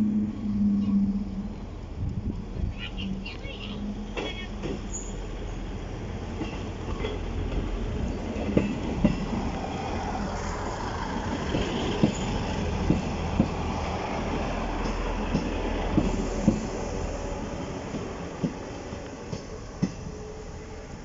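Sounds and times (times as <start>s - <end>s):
diesel train engine humming: 0.0s - 21.0s
train wheels clicking on track: 2.0s - 21.0s.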